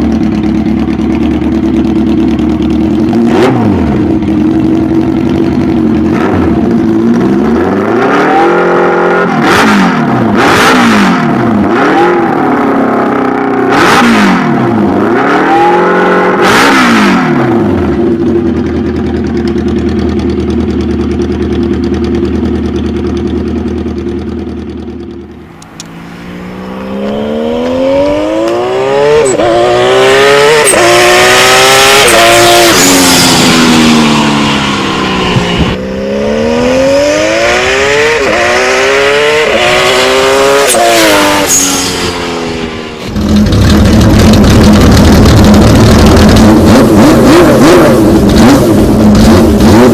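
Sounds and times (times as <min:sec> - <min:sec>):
motorcycle accelerating hard: 0:00.0 - 0:49.9
motorcycle engine revving: 0:00.0 - 0:49.9.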